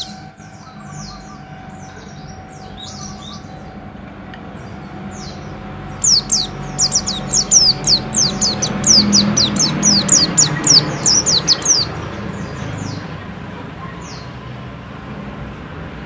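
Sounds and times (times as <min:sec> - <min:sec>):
bird twittering and singing: 0:00.0 - 0:03.8, 0:04.6 - 0:13.3, 0:13.9 - 0:14.4.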